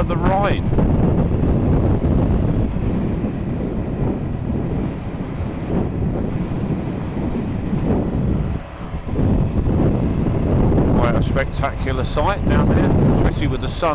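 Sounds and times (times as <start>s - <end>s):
road noise: 0.0s - 13.9s
wind rushing over microphone: 0.0s - 13.9s.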